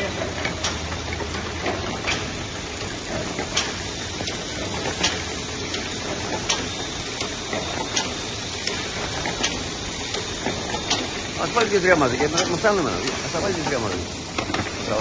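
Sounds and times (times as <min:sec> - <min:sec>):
book binding machine running: 0:00.0 - 0:15.0.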